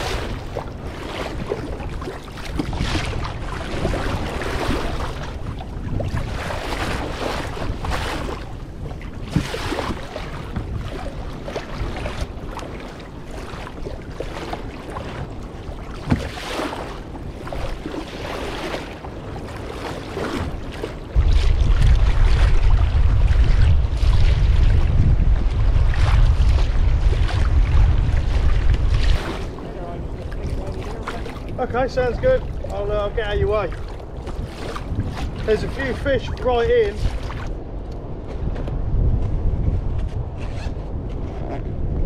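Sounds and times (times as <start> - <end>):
water splashing against kayak: 0.0 - 42.0
wind on microphone: 0.0 - 42.0.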